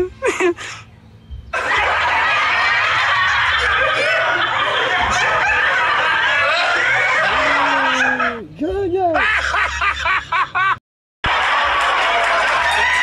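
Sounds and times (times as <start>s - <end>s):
crowd laughing and giggling: 0.0s - 0.8s, 1.5s - 8.4s, 9.2s - 13.0s.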